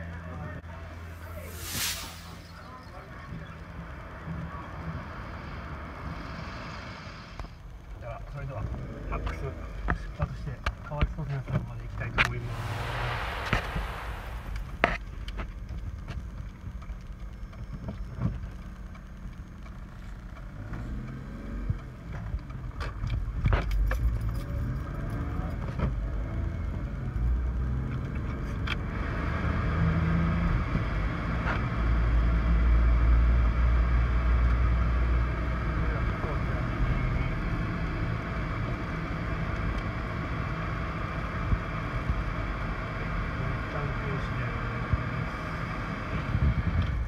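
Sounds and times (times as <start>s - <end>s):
car engine and road rumble: 0.0s - 47.0s.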